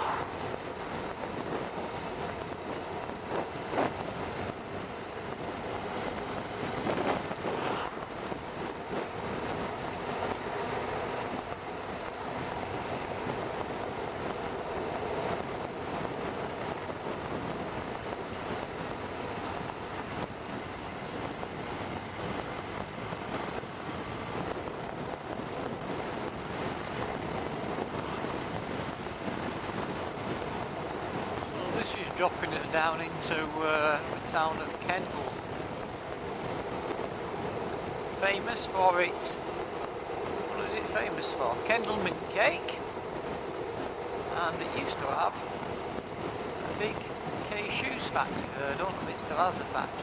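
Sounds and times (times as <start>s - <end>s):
motorcycle riding noise: 0.0s - 50.0s
wind rushing over microphone: 0.0s - 50.0s.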